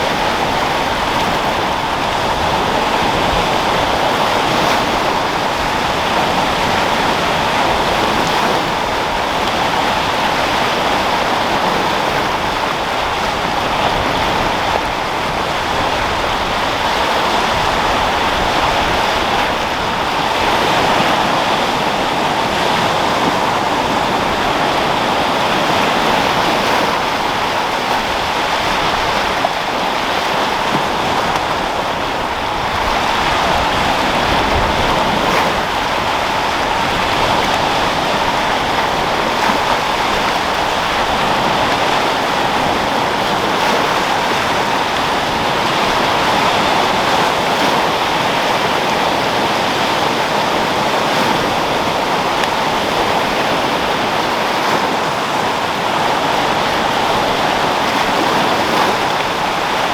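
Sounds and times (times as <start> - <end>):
waves breaking: 0.0 - 59.9
wind: 0.0 - 59.9.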